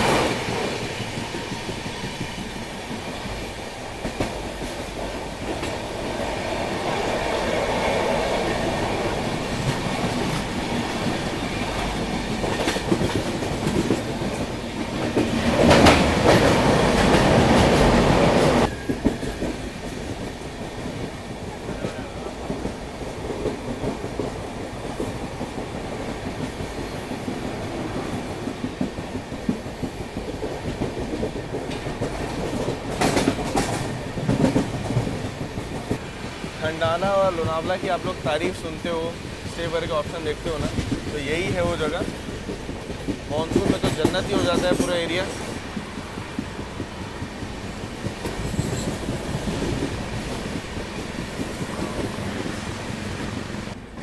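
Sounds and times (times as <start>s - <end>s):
train running: 0.0s - 54.0s.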